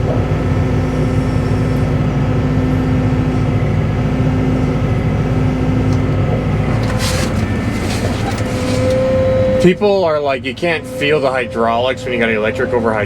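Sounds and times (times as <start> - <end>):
excavator diesel engine rumbling: 0.0 - 13.0
steady held hum: 0.0 - 13.0.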